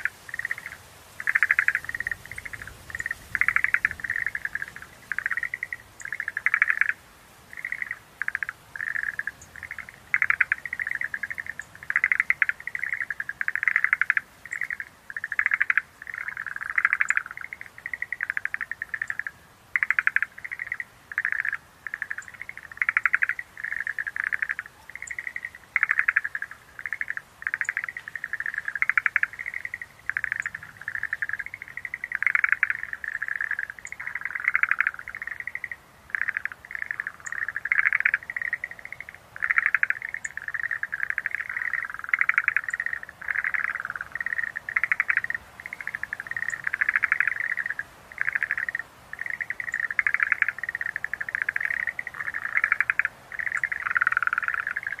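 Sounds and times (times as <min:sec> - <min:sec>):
tree frogs calling: 0:00.0 - 0:55.0.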